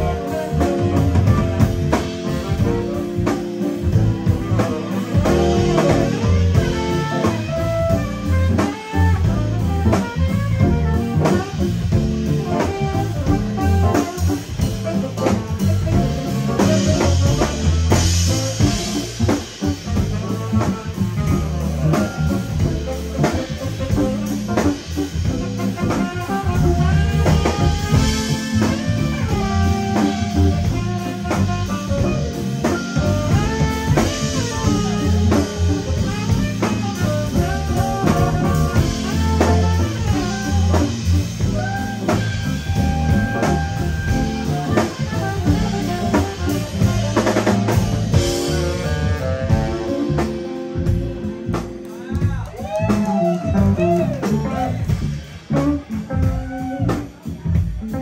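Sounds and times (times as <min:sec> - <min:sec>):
drum kit beat: 0:00.0 - 0:58.0
electric bass: 0:00.0 - 0:58.0
electric guitar: 0:00.0 - 0:58.0
saxophone melody: 0:00.0 - 0:58.0.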